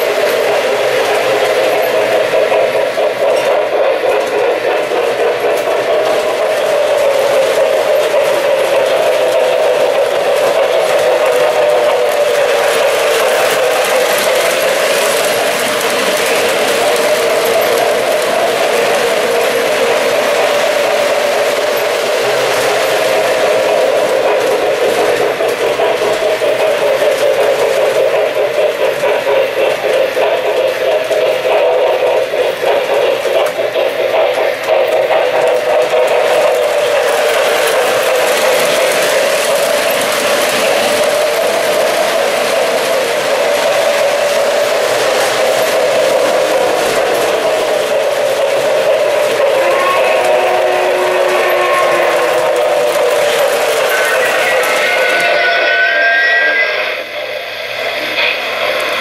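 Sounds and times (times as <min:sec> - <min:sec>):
model trains whirring on track: 0:00.0 - 0:59.0
wheels clattering on rails: 0:00.0 - 0:59.0.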